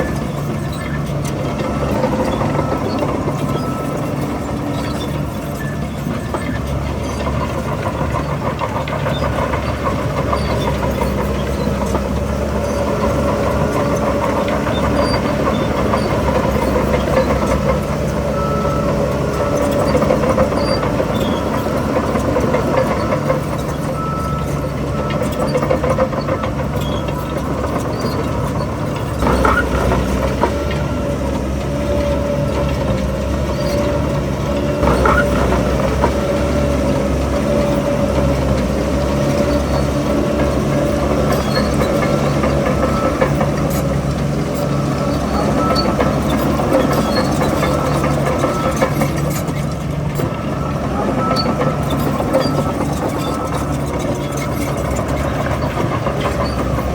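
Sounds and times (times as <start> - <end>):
diesel earthmoving machinery running: 0.0 - 56.9
rattling clatter: 0.0 - 56.9.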